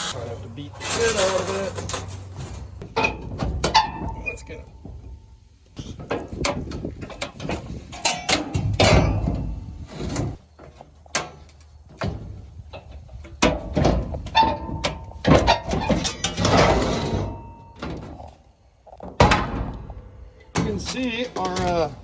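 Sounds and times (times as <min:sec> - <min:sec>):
sheet steel clanging: 0:00.0 - 0:18.2, 0:19.2 - 0:22.0
metal scraping: 0:00.0 - 0:18.3.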